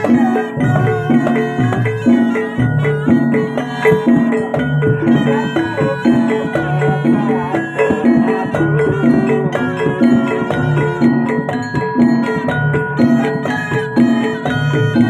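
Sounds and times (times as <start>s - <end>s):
tuned percussion ensemble music: 0.0s - 15.0s.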